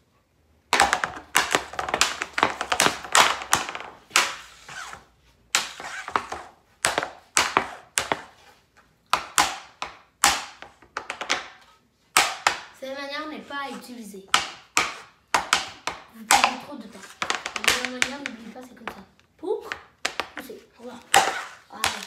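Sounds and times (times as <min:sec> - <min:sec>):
hockey stick and puck clacking: 0:00.7 - 0:22.0.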